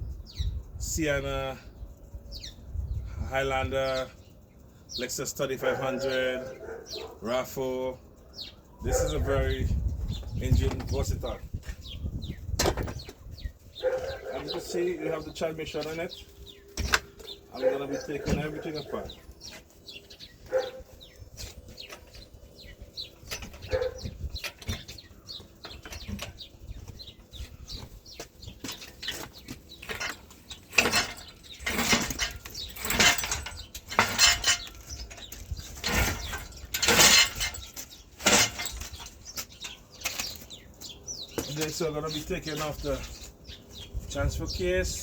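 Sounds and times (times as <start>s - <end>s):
faint birds chirping: 0.0s - 45.0s
rustling and scraping: 8.5s - 45.0s.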